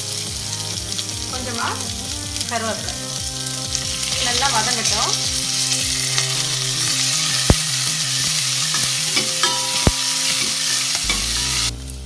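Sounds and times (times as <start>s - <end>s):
food sizzling in hot oil: 0.0s - 11.7s.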